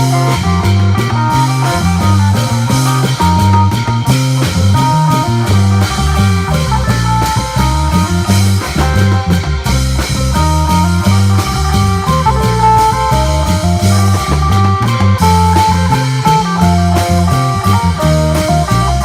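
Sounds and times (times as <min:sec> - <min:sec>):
drums: 0:00.0 - 0:19.0
electric bass: 0:00.0 - 0:19.0.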